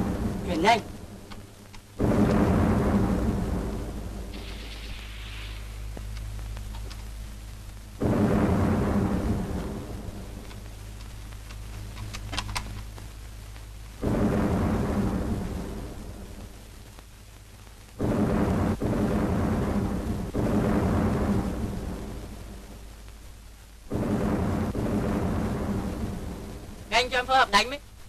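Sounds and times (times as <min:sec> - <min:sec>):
heavy explosions with deep rumble: 0:00.0 - 0:28.0
sharp cracks: 0:00.0 - 0:28.0.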